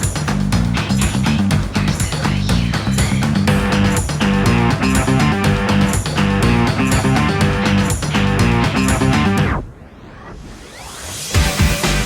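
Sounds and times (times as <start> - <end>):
upbeat instrumental rock music: 0.0 - 9.6, 11.4 - 12.0.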